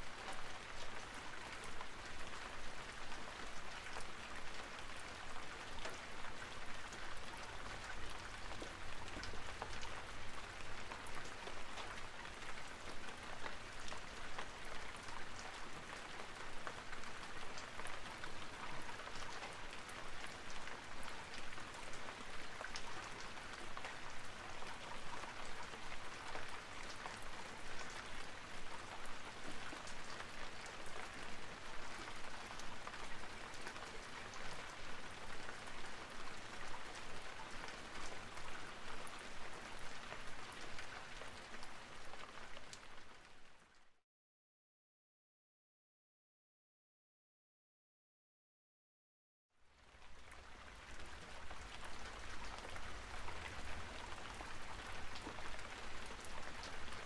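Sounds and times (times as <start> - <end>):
steady rain: 0.0 - 44.0, 49.6 - 57.0.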